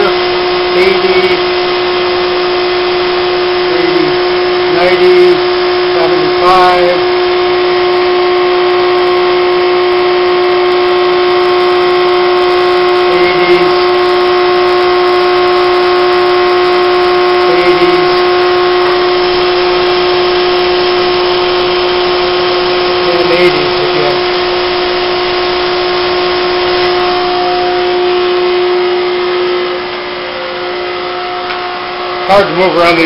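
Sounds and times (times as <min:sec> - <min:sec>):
electric motor humming: 0:00.0 - 0:33.0.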